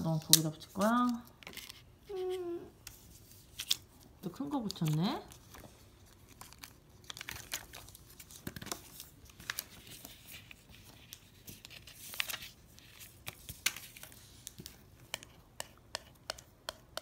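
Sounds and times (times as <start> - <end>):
stickers peeling rustle: 0.0 - 14.9.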